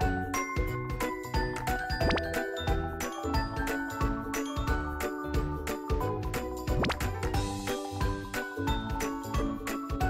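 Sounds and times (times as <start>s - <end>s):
background music with steady beat: 0.0s - 10.0s
bell-like mallet notes: 0.0s - 10.0s.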